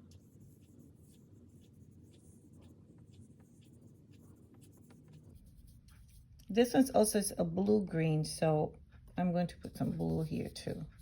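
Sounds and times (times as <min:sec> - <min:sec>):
paintbrush stroking paper: 0:00.0 - 0:07.3, 0:09.4 - 0:11.0
low room hum: 0:00.0 - 0:11.0.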